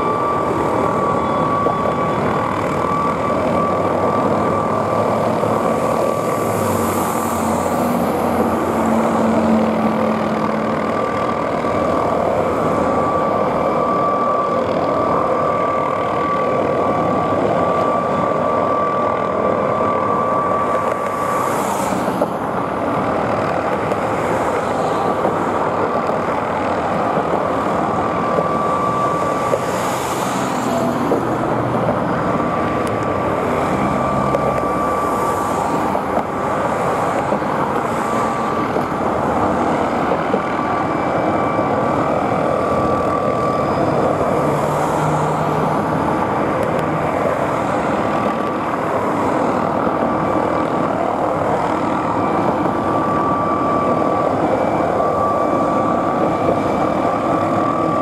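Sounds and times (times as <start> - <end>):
helicopter engine and rotor: 0.0 - 58.0
thin high whine: 0.0 - 58.0.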